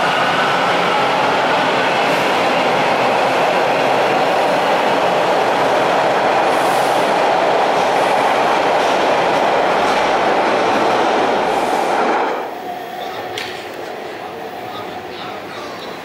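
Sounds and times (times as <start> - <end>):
subway train wheels rumbling on rails: 0.0 - 16.0.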